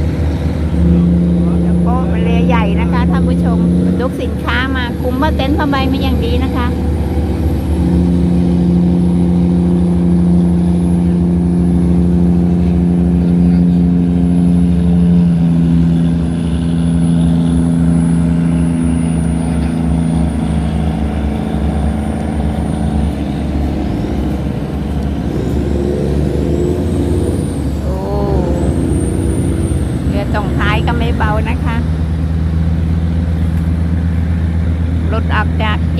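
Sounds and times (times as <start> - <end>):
boat diesel engine droning: 0.0 - 35.9
low rumble: 0.0 - 35.9.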